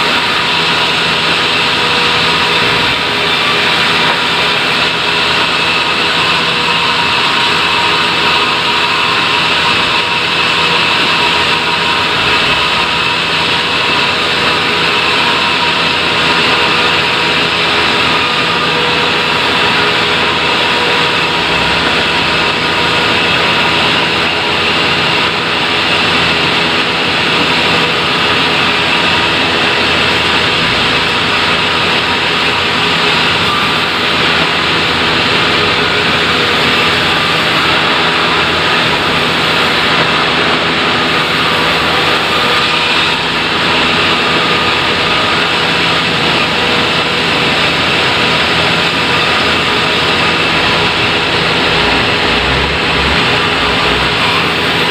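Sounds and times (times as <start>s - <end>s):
sawmill saw cutting logs: 0.0s - 54.9s.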